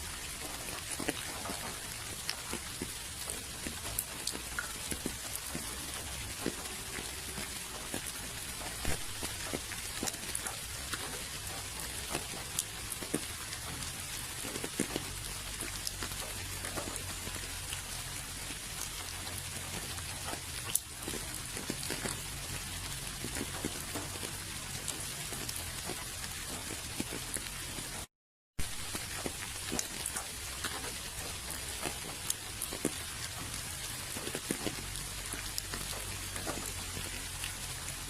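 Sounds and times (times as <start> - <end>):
raindrops clicking close by: 0.0 - 38.0
steady rain hiss: 0.0 - 38.0.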